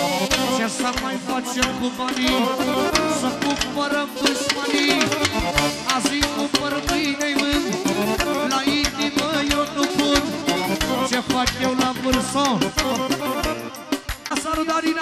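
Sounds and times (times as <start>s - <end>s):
live band ornamented melody: 0.0s - 14.9s
steady drum beat: 0.0s - 15.0s.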